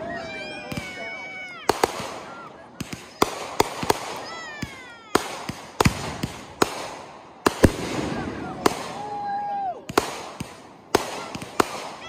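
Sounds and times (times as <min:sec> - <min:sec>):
firework crackling: 0:00.4 - 0:12.0
firework bangs: 0:00.6 - 0:12.0.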